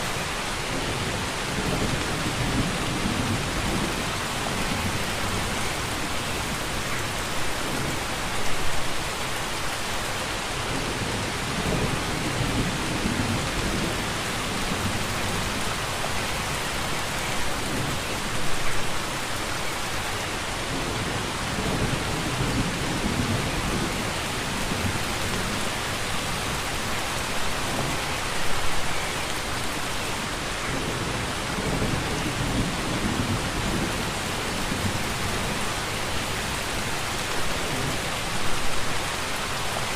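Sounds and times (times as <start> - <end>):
heavy rainfall hissing: 0.0 - 39.9.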